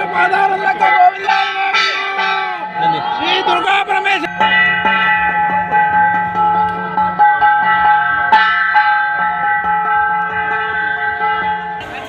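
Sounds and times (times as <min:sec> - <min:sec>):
held notes: 0:00.0 - 0:12.0.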